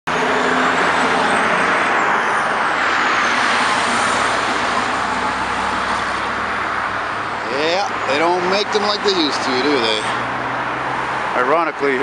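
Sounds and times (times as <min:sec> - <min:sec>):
heavy traffic roar: 0:00.0 - 0:12.0.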